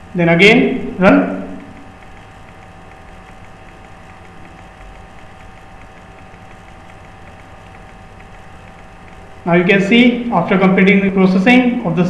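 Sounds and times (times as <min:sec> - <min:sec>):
faint even ticking: 0:00.0 - 0:11.5
background hum and hiss: 0:00.0 - 0:12.0
constant mid-pitched tone: 0:00.0 - 0:12.0.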